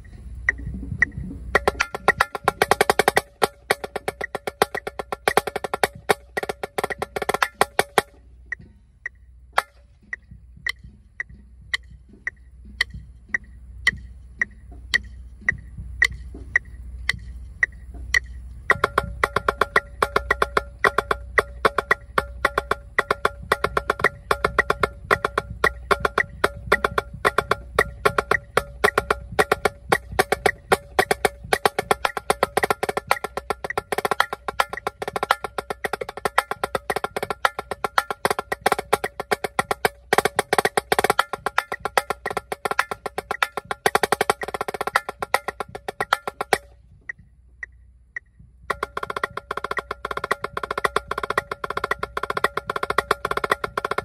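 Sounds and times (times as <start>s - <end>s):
metronome clicking: 0.0s - 54.0s
snare drum rolls and strokes: 0.0s - 54.0s.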